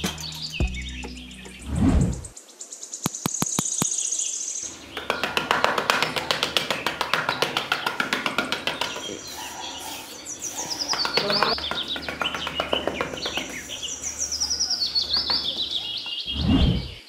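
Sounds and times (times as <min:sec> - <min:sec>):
birds chirping: 0:00.0 - 0:17.0
high bird trill: 0:03.1 - 0:17.0.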